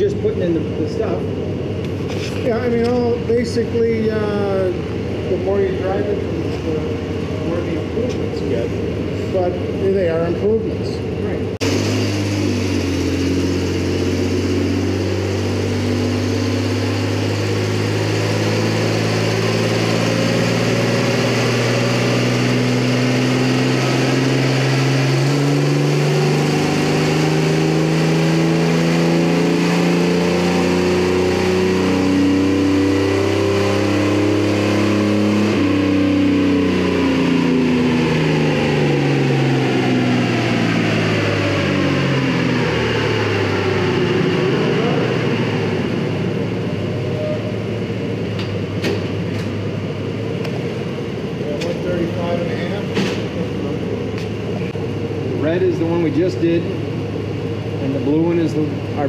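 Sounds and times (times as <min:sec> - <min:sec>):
pickup truck engine revving: 0:00.0 - 0:59.0
wheels spinning dyno rollers: 0:11.6 - 0:59.0.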